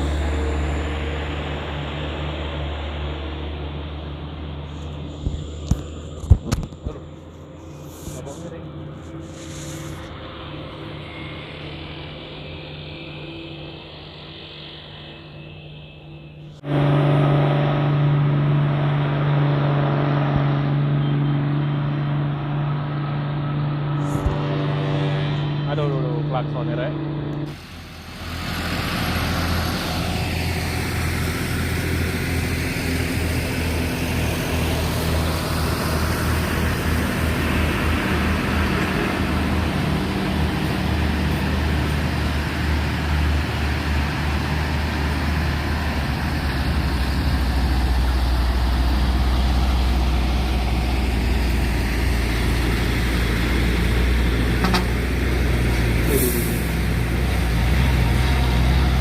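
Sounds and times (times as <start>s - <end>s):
road traffic noise: 0.0s - 59.0s
truck diesel engine drone: 0.0s - 59.0s.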